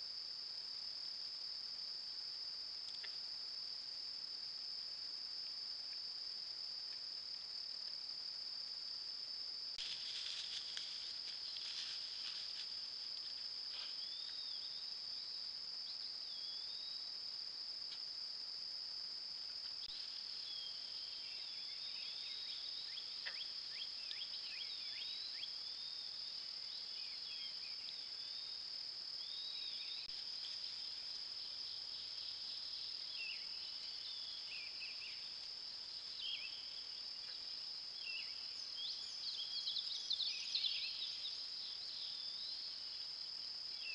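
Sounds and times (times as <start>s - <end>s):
high-pitched insect trill: 0.0s - 43.9s.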